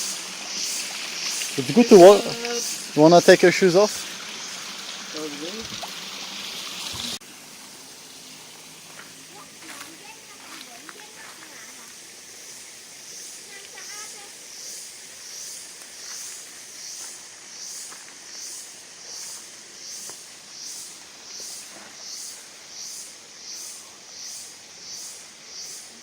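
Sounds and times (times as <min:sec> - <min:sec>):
insects pulsing buzz: 0:00.0 - 0:26.0.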